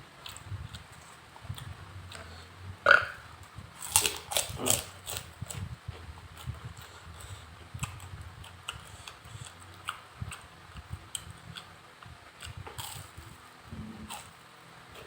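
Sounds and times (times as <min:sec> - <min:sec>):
person chewing food: 0:00.2 - 0:14.4.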